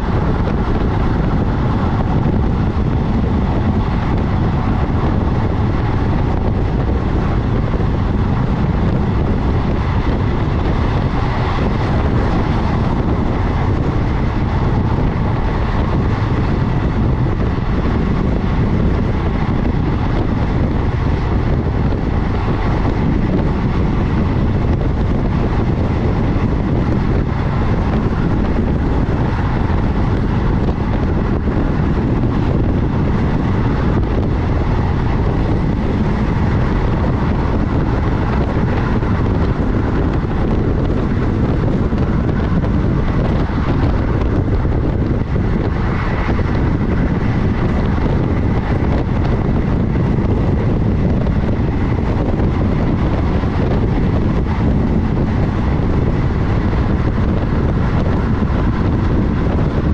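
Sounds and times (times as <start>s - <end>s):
train wheels rumbling on rails: 0.0s - 59.9s
wind buffeting microphone: 0.0s - 59.9s.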